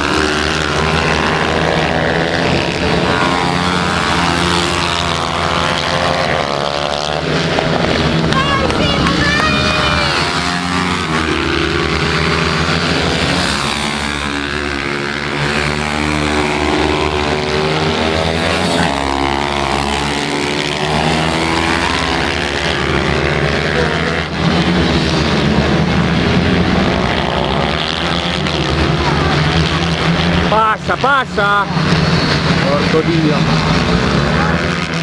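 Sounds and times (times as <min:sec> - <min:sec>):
pit bike engines racing: 0:00.0 - 0:35.0.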